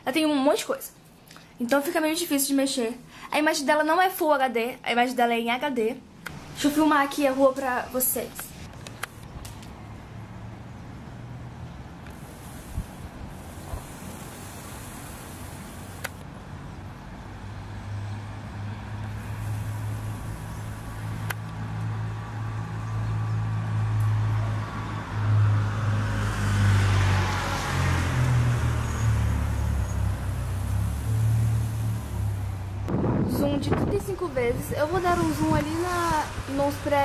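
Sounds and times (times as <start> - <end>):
vehicle passing: 6.3 - 37.0.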